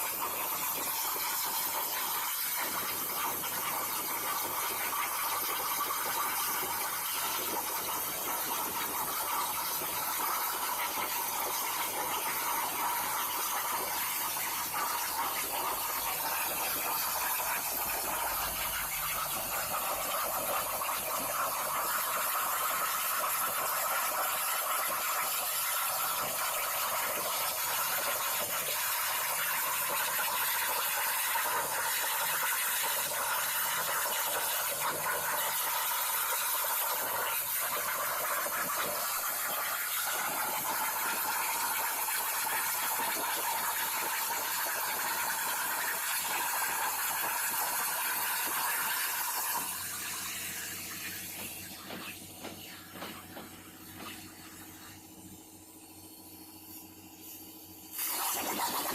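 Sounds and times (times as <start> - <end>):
plasma cutter hissing: 0.0 - 58.9.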